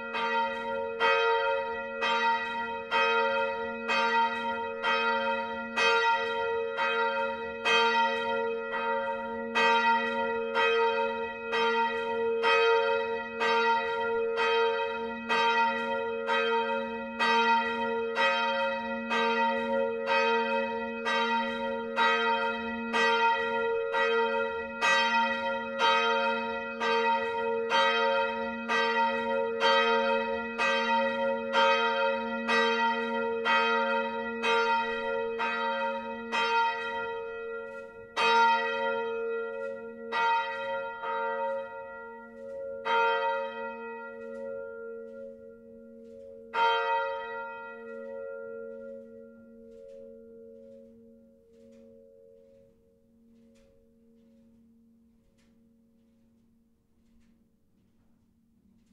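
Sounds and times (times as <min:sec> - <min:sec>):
church bell ringing: 0:00.0 - 0:57.6.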